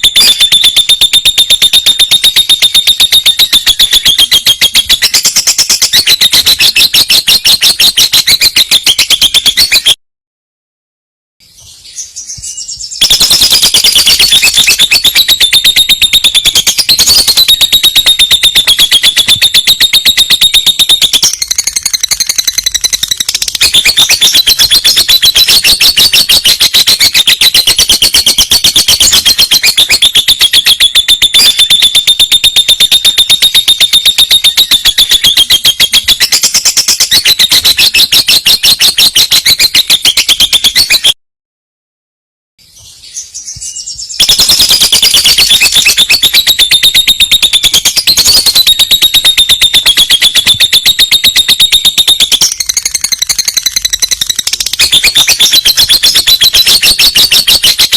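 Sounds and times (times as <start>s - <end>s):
lovebird trilling high chirps: 0.0s - 10.0s, 11.6s - 41.2s, 42.8s - 57.9s.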